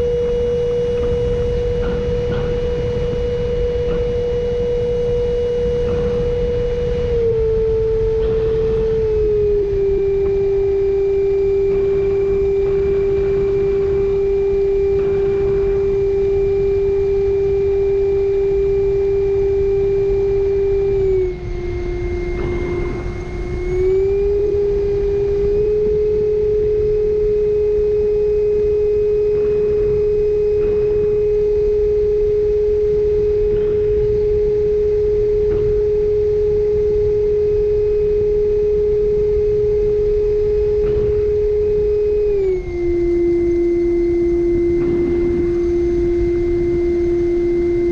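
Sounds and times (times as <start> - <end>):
electric ducted fan whine: 0.0 - 47.9.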